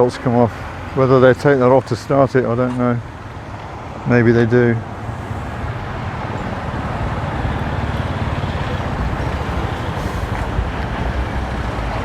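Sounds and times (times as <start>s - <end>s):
road traffic noise: 0.0s - 12.0s
vehicle engine hum: 0.0s - 12.0s.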